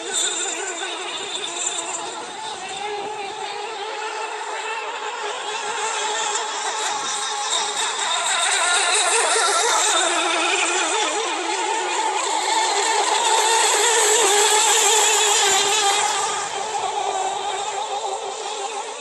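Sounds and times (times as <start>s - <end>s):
rc boat motors whining: 0.0s - 19.0s.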